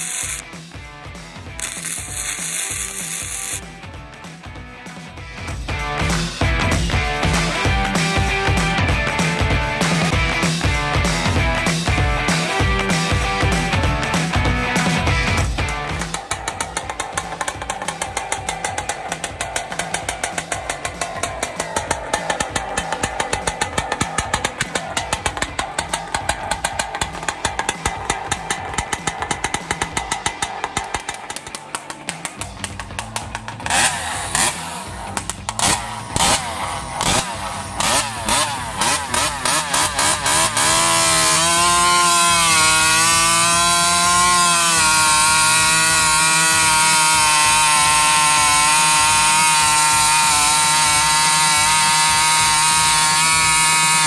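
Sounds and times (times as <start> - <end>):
chainsaw idling and revving: 0.0 - 0.5, 1.5 - 3.7, 6.0 - 32.4, 33.4 - 54.0.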